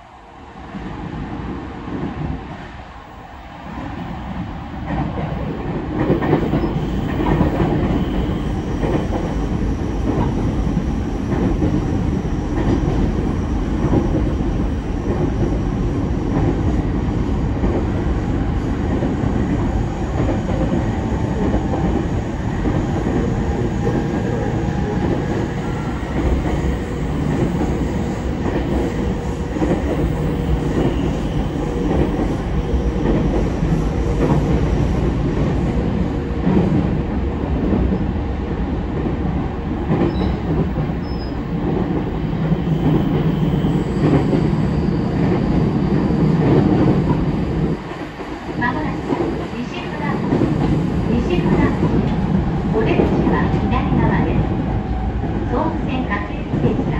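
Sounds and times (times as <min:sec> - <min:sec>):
train wheels rumbling on rails: 0:00.7 - 0:56.9.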